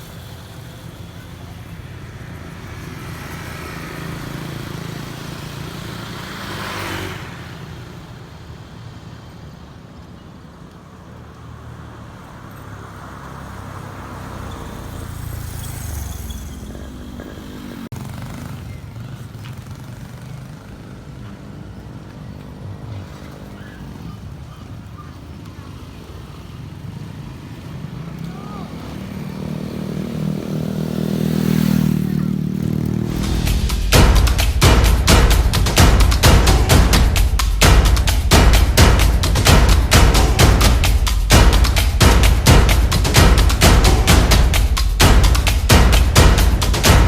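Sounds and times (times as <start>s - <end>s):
low engine rumble of traffic: 0.0s - 47.0s
vehicles passing by: 0.0s - 47.0s.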